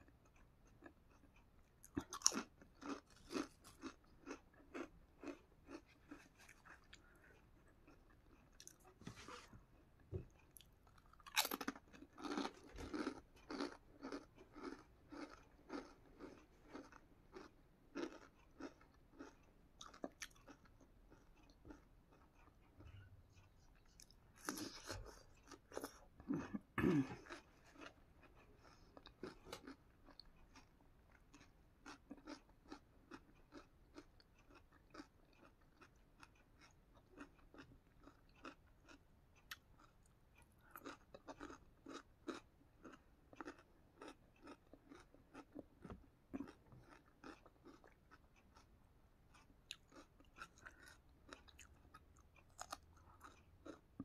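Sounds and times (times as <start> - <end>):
person crunching crunchy food: 1.8 - 7.2, 10.6 - 22.4, 23.8 - 30.7, 31.3 - 39.9, 40.7 - 45.6, 46.3 - 48.6, 49.3 - 53.8.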